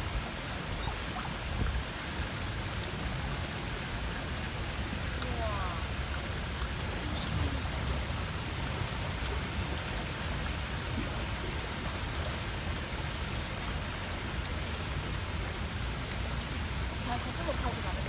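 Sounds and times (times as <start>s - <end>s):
steady outdoor hiss: 0.0s - 18.0s.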